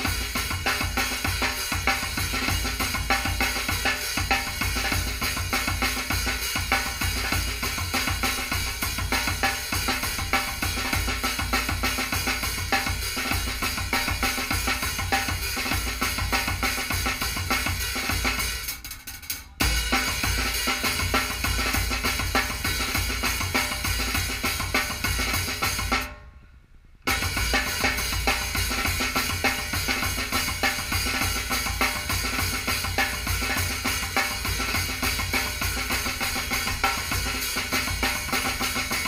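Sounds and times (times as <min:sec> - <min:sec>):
drum kit groove: 0:00.0 - 0:26.2, 0:27.0 - 0:39.0.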